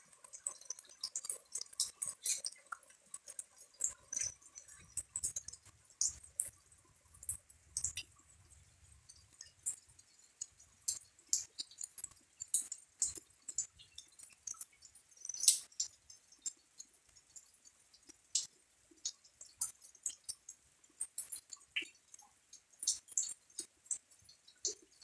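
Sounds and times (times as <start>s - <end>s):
light rain drops ticking: 0.0s - 25.0s.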